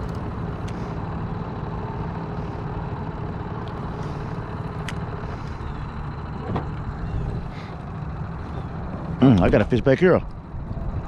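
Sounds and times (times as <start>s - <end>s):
boat motor rumbling: 0.0s - 11.0s.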